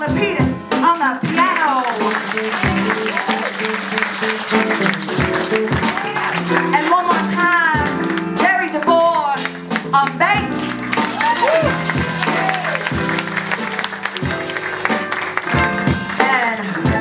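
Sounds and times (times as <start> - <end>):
guitar music: 0.0 - 17.0
held instrumental notes: 0.0 - 17.0
crowd clapping: 1.3 - 17.0.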